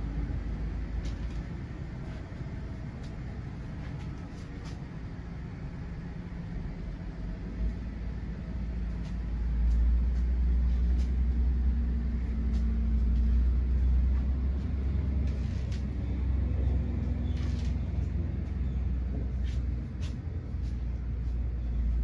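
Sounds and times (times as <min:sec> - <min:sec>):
motorhome engine rumbling: 0:00.0 - 0:22.0.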